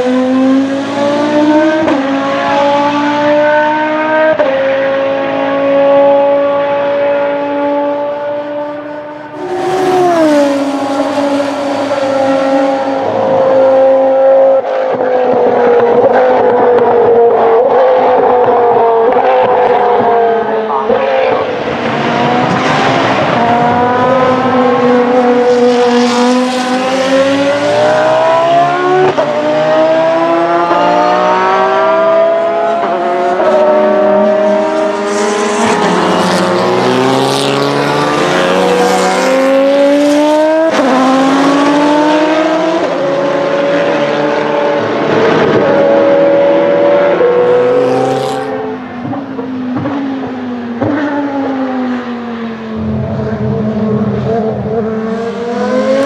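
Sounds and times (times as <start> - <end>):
other race car engines: 0.0 - 56.0
race car engine accelerating: 0.0 - 56.0.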